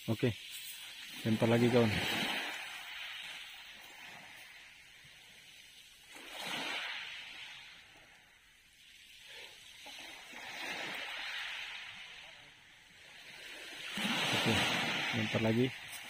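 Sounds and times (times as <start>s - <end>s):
waves washing onto gravel beach: 0.0s - 16.0s.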